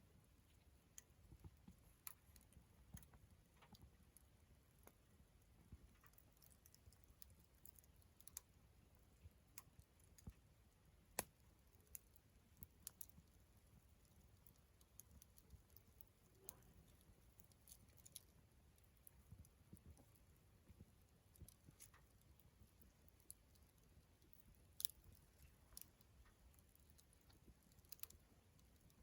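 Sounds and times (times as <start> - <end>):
campfire crackling: 1.3 - 29.0.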